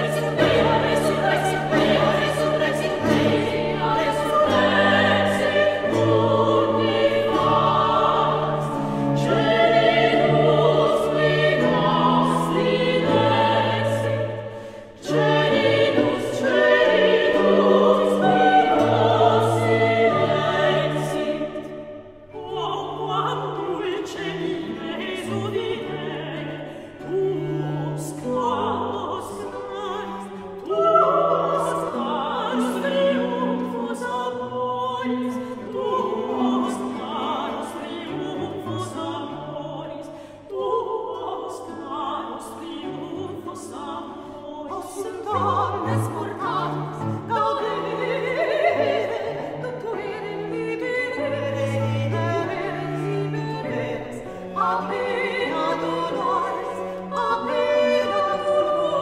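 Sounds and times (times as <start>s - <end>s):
women singing in parts: 0.0s - 59.0s.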